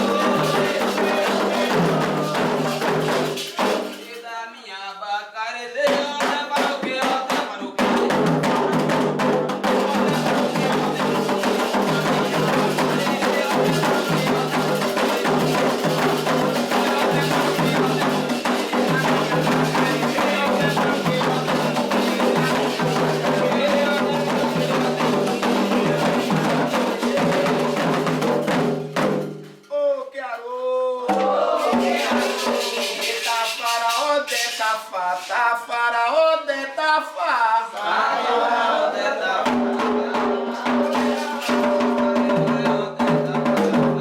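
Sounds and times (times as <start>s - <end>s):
hand drums playing fast rhythm: 0.0s - 4.1s, 5.9s - 29.6s, 31.1s - 34.8s, 39.4s - 44.0s.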